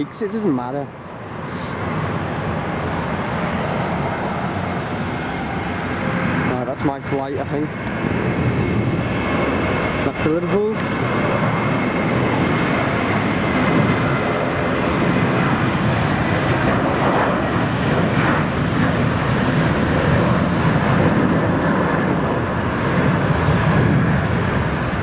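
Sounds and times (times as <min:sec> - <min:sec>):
jet engines roaring at takeoff: 0:00.0 - 0:25.0.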